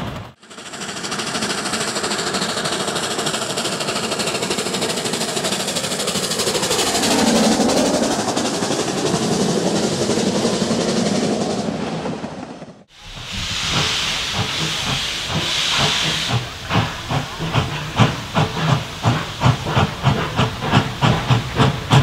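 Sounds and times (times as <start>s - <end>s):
steam locomotive exhaust beats: 0.0s - 22.0s
steam hissing: 0.1s - 11.8s, 12.9s - 22.0s.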